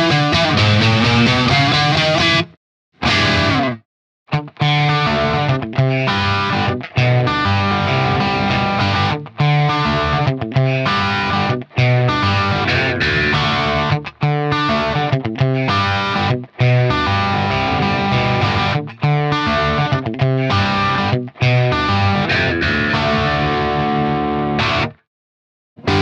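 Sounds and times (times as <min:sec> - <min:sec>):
overdriven electric guitar riffs: 0:00.0 - 0:25.0, 0:25.8 - 0:26.0.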